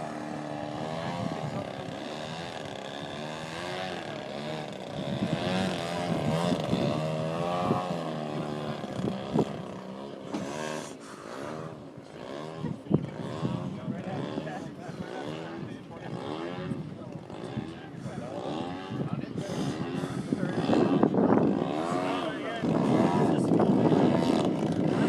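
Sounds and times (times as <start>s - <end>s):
model airplane engine buzzing: 0.0s - 25.0s.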